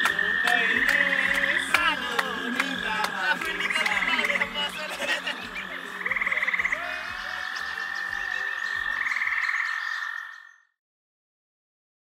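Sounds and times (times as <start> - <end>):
steady high animal trill: 0.0 - 10.7
rapidly pulsed animal call: 0.0 - 10.8.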